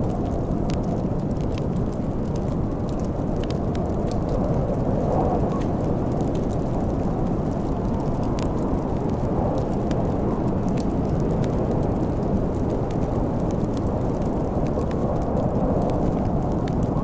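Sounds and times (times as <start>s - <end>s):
storm wind rumbling: 0.0s - 17.0s
wood fire crackling: 0.0s - 17.0s.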